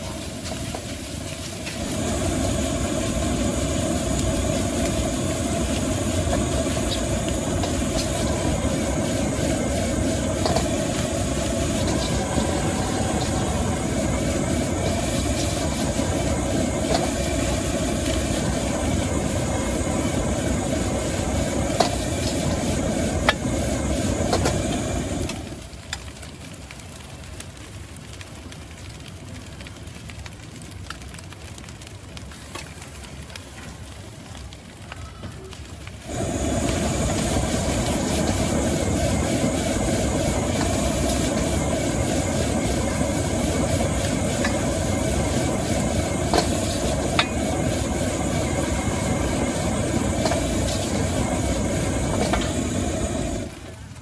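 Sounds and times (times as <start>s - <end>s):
gas wok burner roaring: 0.0s - 28.6s, 30.9s - 54.0s.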